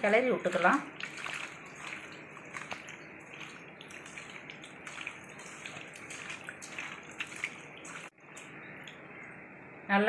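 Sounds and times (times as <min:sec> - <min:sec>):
wet squishing of fish mixing: 0:00.1 - 0:09.0.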